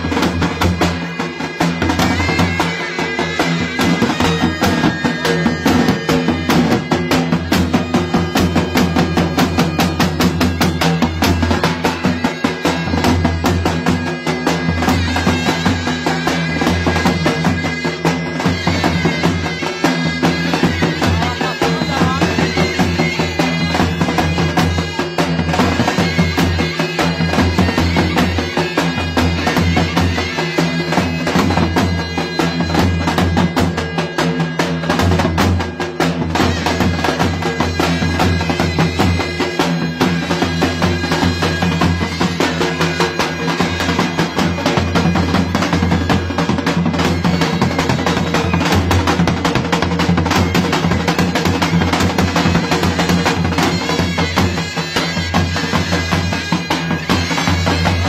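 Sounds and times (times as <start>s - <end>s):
driving drum beat: 0.0s - 58.0s
reedy wind instrument melody: 0.0s - 58.0s.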